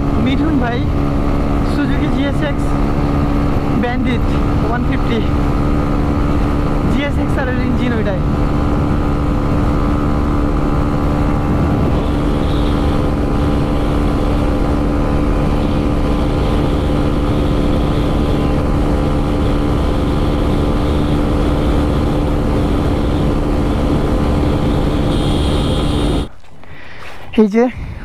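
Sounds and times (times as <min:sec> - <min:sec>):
motorcycle engine drone: 0:00.0 - 0:28.0
rushing wind: 0:00.0 - 0:28.0.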